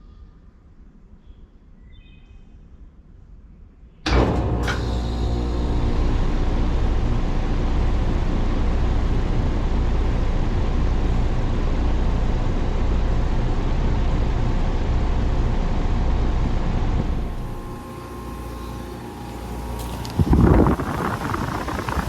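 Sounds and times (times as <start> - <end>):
air conditioner hum: 4.1 - 22.0
fan air rushing: 4.1 - 22.0.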